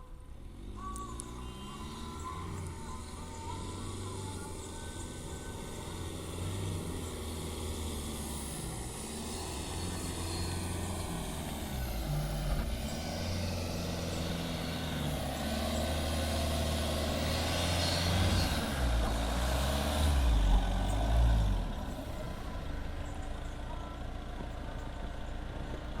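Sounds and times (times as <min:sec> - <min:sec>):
car engine labouring: 0:00.0 - 0:26.0.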